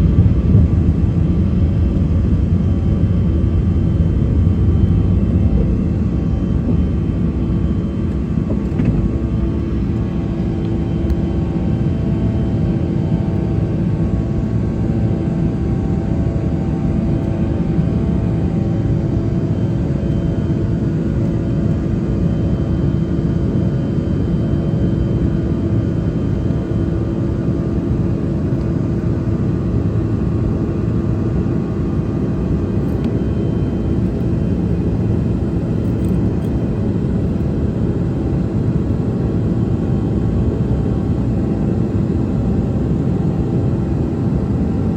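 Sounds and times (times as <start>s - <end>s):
jet engines in aircraft cabin: 0.0s - 44.9s.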